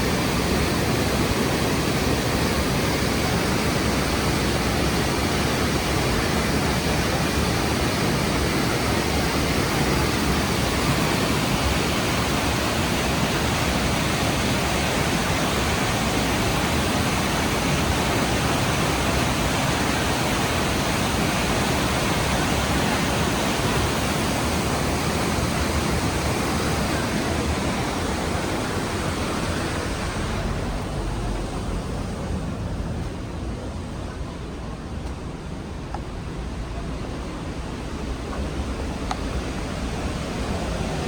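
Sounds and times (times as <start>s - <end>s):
waterfall rushing: 0.0s - 34.4s, 36.5s - 41.0s.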